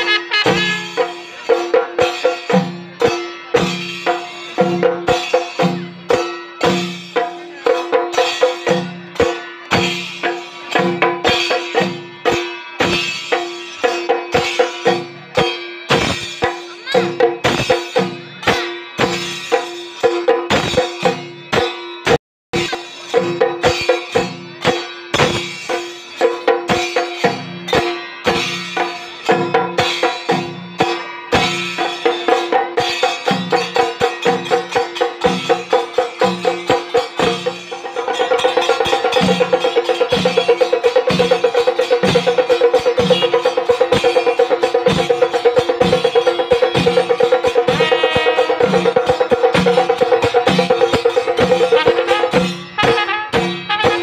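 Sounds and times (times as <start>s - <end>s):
drum ensemble playing fast rhythm: 0.0s - 54.0s.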